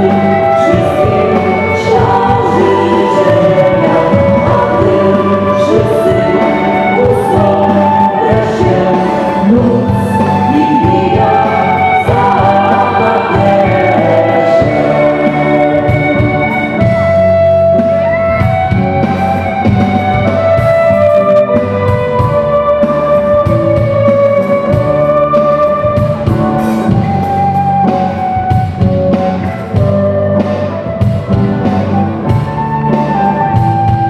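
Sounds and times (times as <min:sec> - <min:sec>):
live band playing carol: 0:00.0 - 0:34.0.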